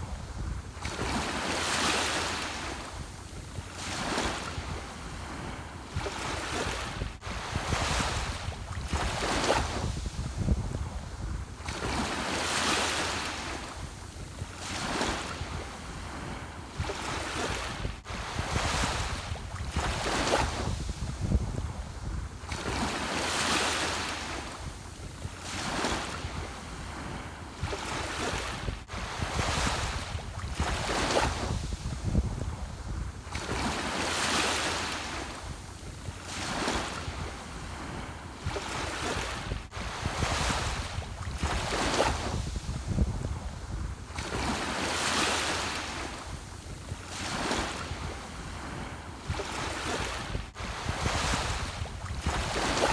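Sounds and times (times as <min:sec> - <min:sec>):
waves breaking: 0:00.0 - 0:52.9.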